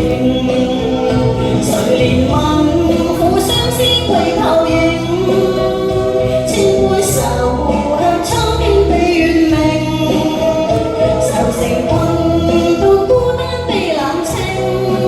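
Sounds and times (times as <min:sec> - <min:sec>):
instrumental accompaniment: 0:00.0 - 0:15.0
steady low bass line: 0:00.0 - 0:15.0.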